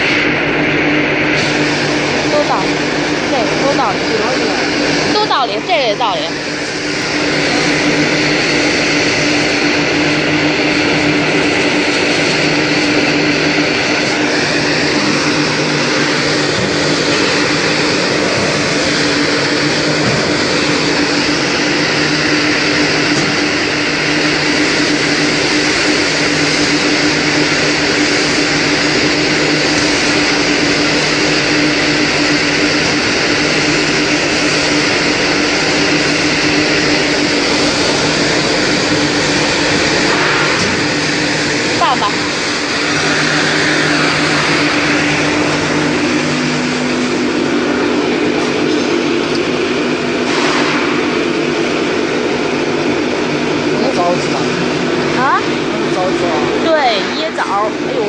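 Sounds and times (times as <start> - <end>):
grinding machine motor humming: 0.0 - 58.0.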